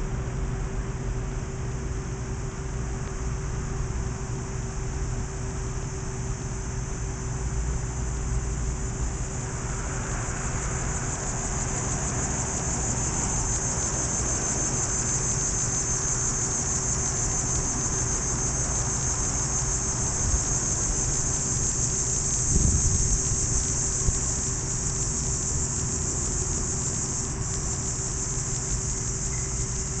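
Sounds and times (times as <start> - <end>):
insects chorus: 0.0 - 30.0
low steady rumble: 0.0 - 30.0.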